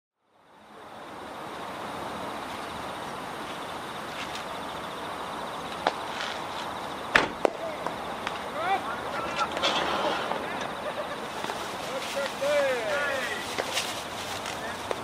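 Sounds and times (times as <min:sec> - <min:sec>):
distant engines hissing: 0:00.2 - 0:15.0.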